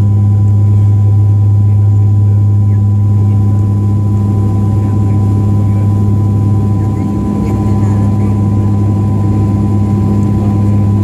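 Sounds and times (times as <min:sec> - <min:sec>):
airplane cabin drone: 0:00.0 - 0:11.0
high engine whine: 0:00.0 - 0:11.0.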